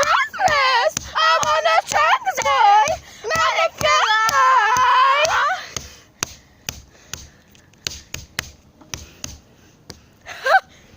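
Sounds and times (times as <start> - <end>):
rhythmic hand taps: 0.0 - 10.1.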